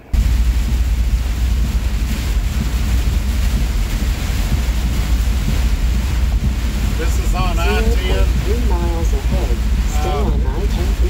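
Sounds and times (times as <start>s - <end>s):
heavy rain hiss: 0.0s - 11.0s
high wind: 0.0s - 11.0s.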